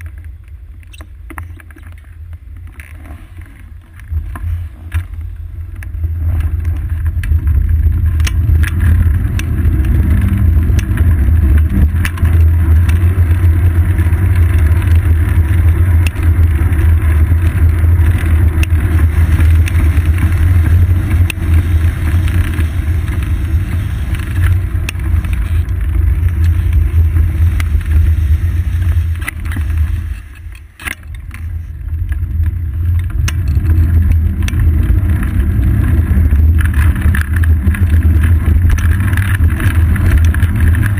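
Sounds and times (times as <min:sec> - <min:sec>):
wind and road roar: 0:00.0 - 0:40.9.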